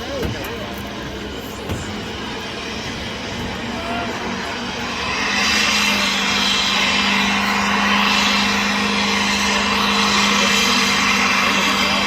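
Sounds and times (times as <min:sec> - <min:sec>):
car engine running high: 0:00.0 - 0:12.0
loud rushing noise: 0:01.8 - 0:12.0.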